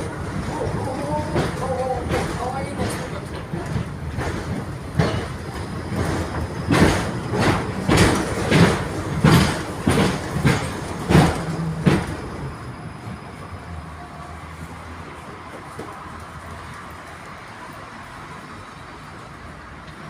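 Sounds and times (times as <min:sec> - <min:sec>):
tram rumble: 0:00.0 - 0:20.0
tram wheels clacking over rail joints: 0:00.0 - 0:20.0.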